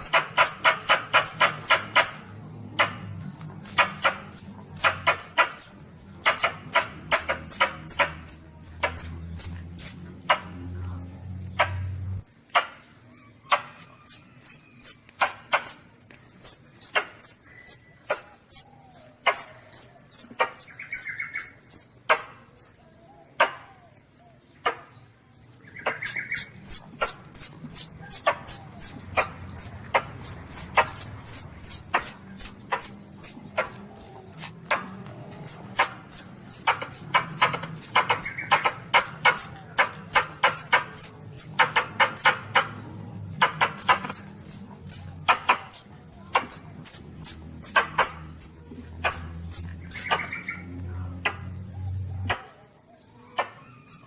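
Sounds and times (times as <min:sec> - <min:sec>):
high-pitched squeaky chirps: 0:00.0 - 0:03.0, 0:03.6 - 0:10.3, 0:13.5 - 0:22.8, 0:25.8 - 0:50.6, 0:53.4 - 0:54.0.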